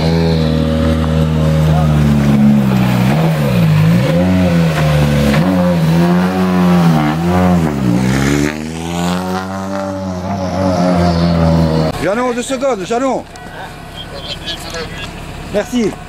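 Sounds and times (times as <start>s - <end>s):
turbocharged car engine revving: 0.0s - 16.0s.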